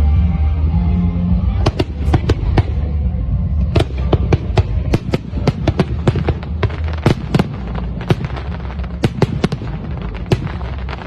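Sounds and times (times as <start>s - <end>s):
steady low rumble: 0.0s - 11.0s
fireworks bangs and crackles: 1.4s - 11.0s.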